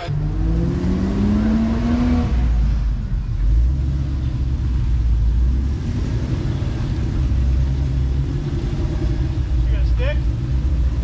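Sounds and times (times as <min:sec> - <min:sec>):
engine rumbling at low revs: 0:00.0 - 0:11.0.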